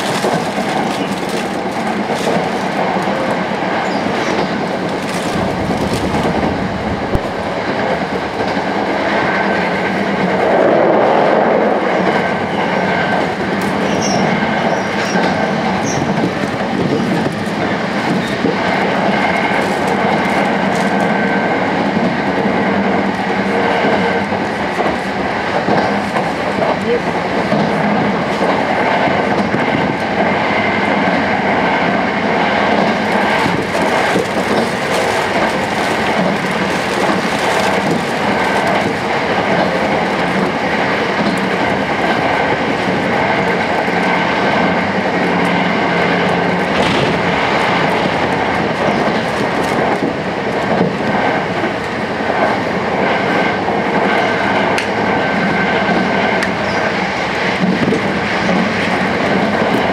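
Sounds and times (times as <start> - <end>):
rumble of wheels on rail: 0.0 - 59.9.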